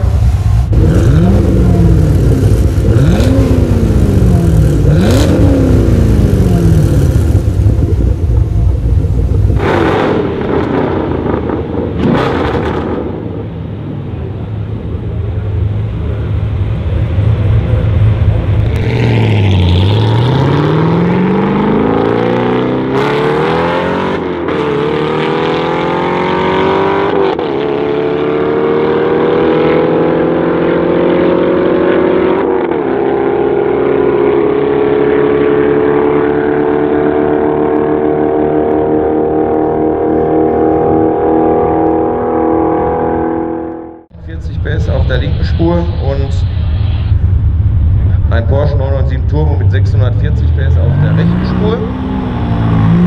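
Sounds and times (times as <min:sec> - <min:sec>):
car accelerating hard: 0:00.0 - 0:13.5, 0:15.0 - 0:53.0
car engine revving through loud exhaust: 0:00.0 - 0:53.0.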